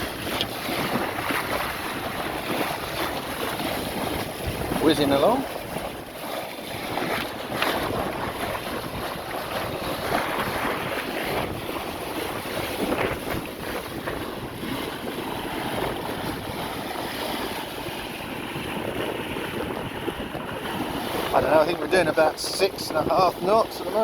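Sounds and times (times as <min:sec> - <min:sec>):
water rushing along a hull: 0:00.0 - 0:24.0
wind buffeting microphone: 0:00.0 - 0:24.0.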